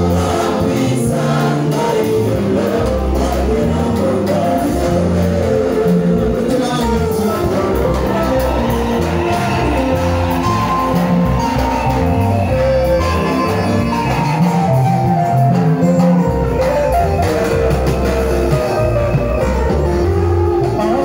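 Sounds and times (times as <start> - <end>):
amplified band: 0.0 - 21.0
bass line: 0.0 - 21.0
gospel choir singing: 0.0 - 21.0
guitar: 0.0 - 21.0.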